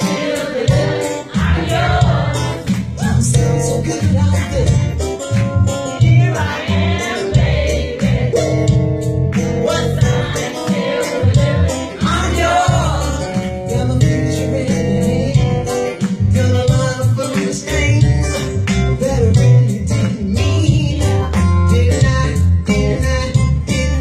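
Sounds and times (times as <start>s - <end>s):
soul music with singing: 0.0s - 24.0s.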